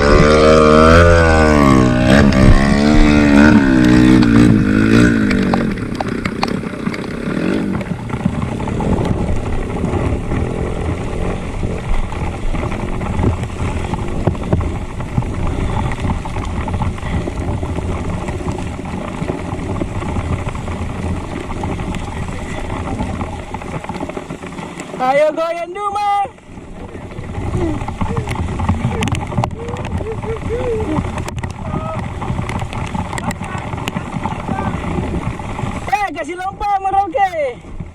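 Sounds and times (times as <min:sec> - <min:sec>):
motorcycle engine revving: 0:00.0 - 0:25.4, 0:26.6 - 0:36.4.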